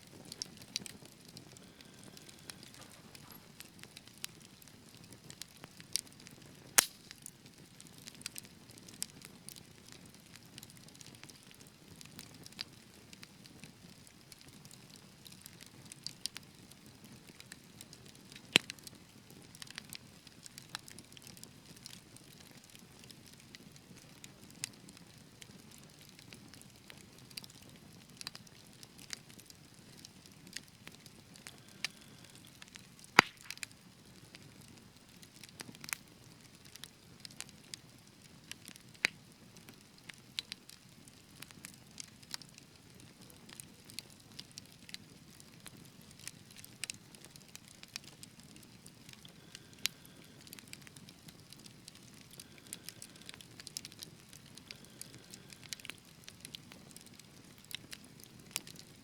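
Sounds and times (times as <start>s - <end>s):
low rumble of flame: 0.0s - 59.0s
wood fire crackling: 0.0s - 59.0s.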